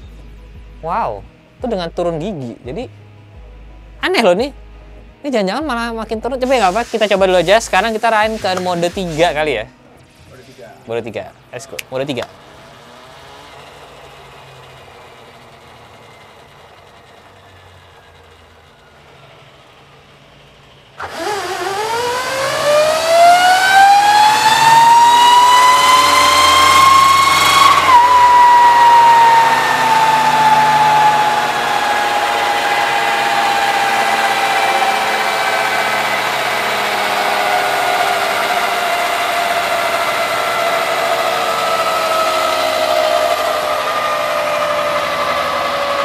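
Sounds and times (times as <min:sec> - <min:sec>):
electric motor whining: 0:06.2 - 0:10.7, 0:12.0 - 0:46.0.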